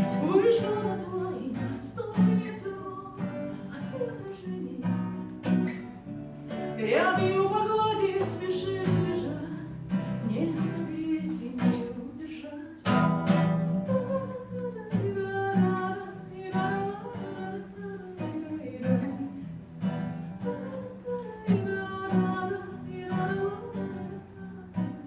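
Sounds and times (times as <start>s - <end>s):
woman singing wordless notes: 0.0s - 5.9s, 6.5s - 25.0s
acoustic guitar strumming: 0.0s - 25.0s.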